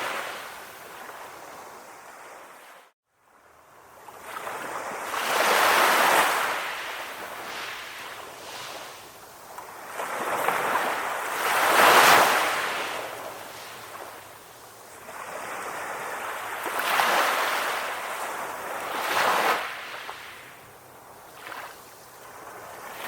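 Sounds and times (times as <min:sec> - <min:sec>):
ocean waves washing: 0:00.0 - 0:02.9, 0:04.2 - 0:23.0.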